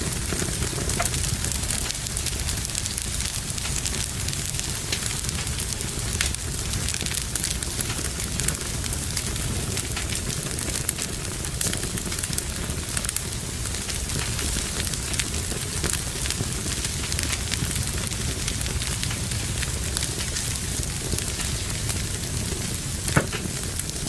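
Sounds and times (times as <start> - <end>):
fire burning in fireplace: 0.0 - 24.0.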